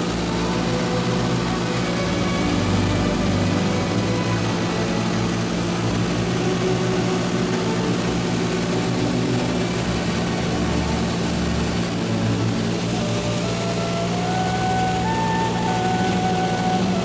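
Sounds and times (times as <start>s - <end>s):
aircraft engine droning: 0.0s - 17.0s.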